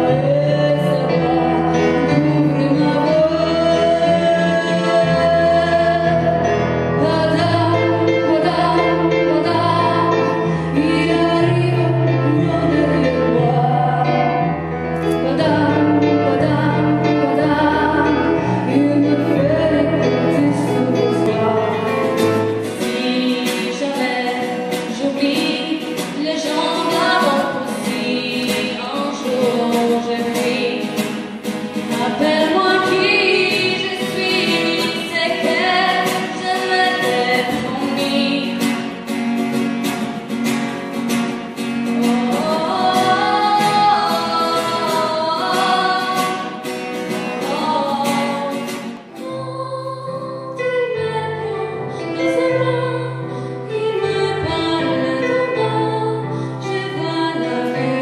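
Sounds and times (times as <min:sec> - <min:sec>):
person singing: 0:00.0 - 0:38.9, 0:41.8 - 0:58.0.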